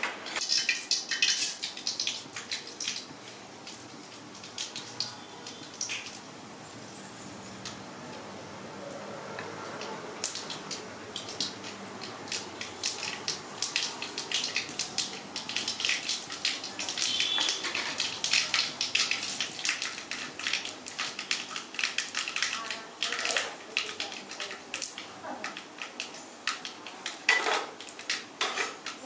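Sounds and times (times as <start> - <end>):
seeds popping in hot oil: 0.3 - 6.3, 9.4 - 29.0.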